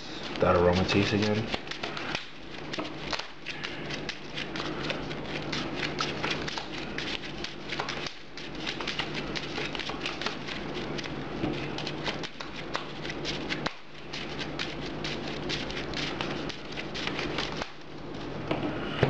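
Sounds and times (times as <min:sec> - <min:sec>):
cards flicking papery clicks: 0:00.2 - 0:17.9.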